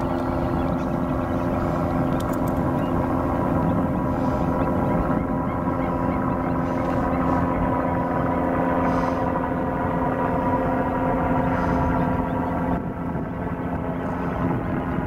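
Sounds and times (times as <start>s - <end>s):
aircraft drone overhead: 0.0s - 15.0s.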